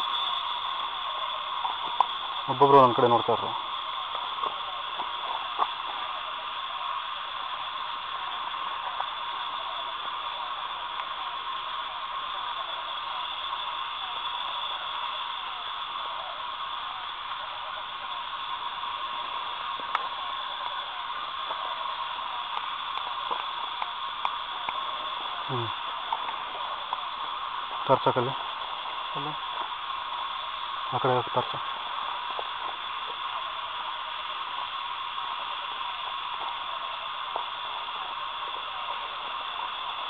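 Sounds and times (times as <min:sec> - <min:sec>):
night insects chirring: 0:00.0 - 0:40.0.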